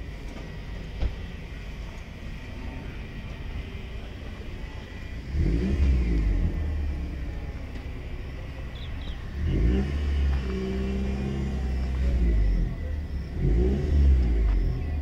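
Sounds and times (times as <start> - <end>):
car engine revving: 0.0 - 15.0
steady low rumble: 0.0 - 15.0.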